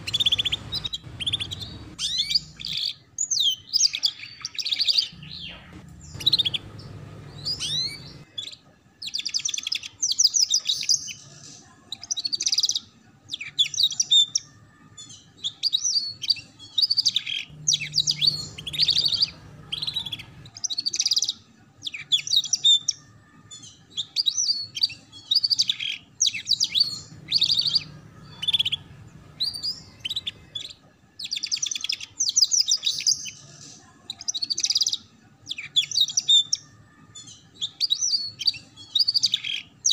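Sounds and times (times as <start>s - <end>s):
canary singing trilled phrases: 0.0s - 39.9s.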